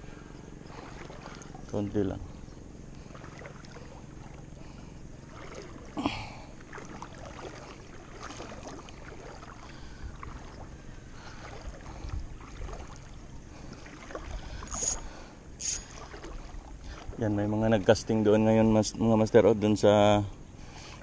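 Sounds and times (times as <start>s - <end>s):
water lapping at shore: 0.0s - 21.0s.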